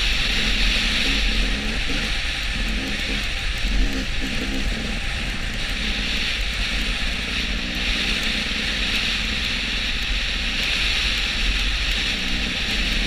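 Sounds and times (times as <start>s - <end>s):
low engine rumble: 0.0s - 13.0s
wind and road noise: 0.0s - 13.0s.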